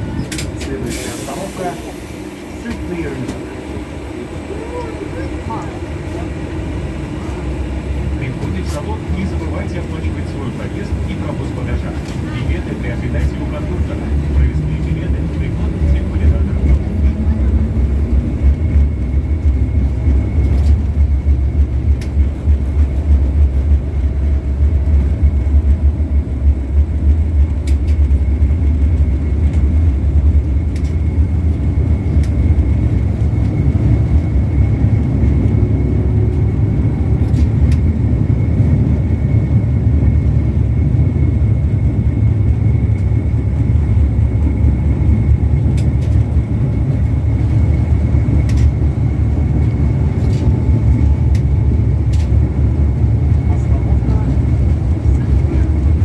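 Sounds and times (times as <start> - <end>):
tram wheels and motors rumbling: 0.0 - 56.0.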